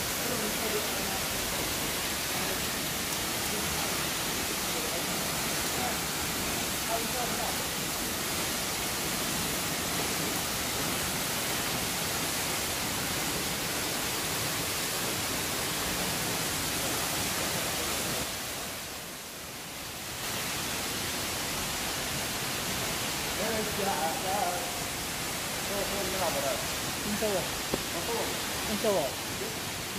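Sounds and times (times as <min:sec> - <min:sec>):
waterfall splashing onto rocks: 0:00.0 - 0:29.9.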